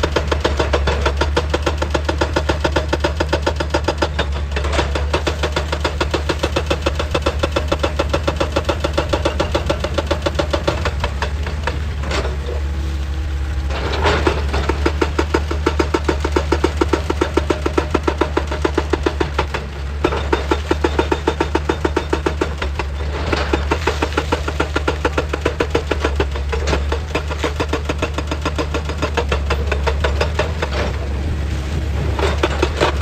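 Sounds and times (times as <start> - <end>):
excavator engine hum: 0.0 - 33.0.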